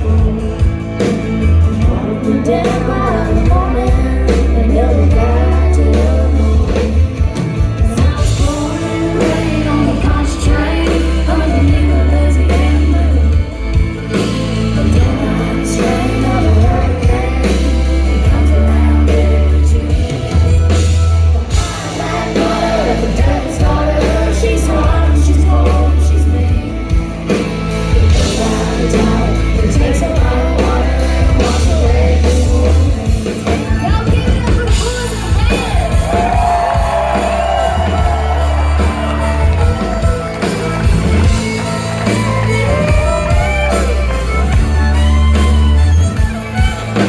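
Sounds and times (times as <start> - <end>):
live country band playing: 0.0 - 47.0.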